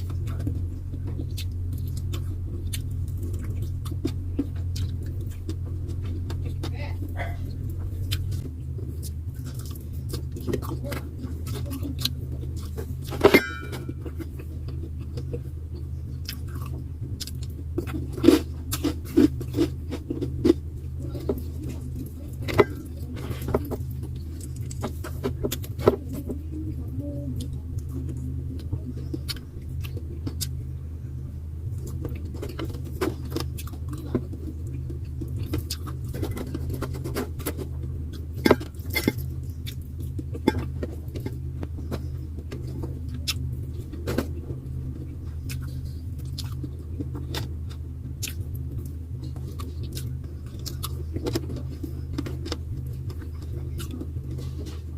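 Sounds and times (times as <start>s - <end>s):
eating clicks and crunches: 0.0s - 26.6s, 27.2s - 30.6s, 31.7s - 54.9s
low hum: 0.0s - 54.9s.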